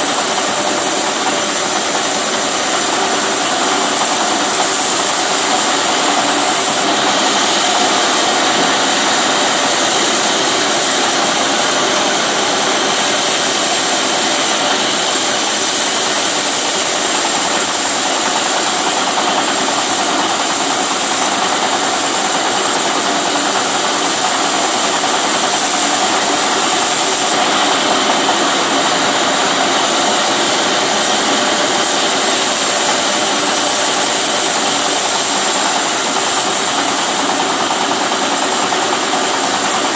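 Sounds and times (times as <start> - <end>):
chainsaw engine buzzing: 0.0 - 39.9.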